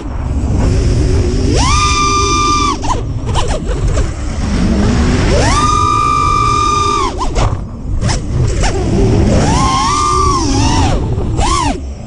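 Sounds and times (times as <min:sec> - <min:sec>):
drone motors whining: 0:00.0 - 0:12.0
steady low rumble: 0:00.0 - 0:12.0.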